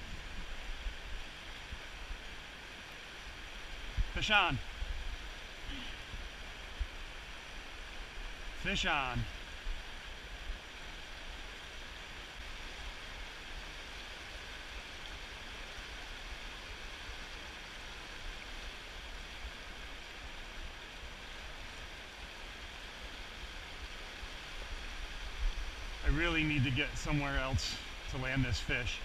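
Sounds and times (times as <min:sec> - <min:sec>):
river water rushing over rocks: 0:00.0 - 0:29.0.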